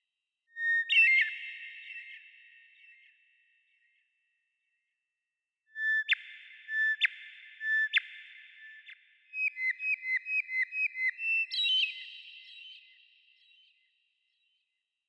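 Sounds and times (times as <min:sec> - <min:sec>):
bird chirps with echo: 0:00.5 - 0:04.2, 0:05.7 - 0:14.7.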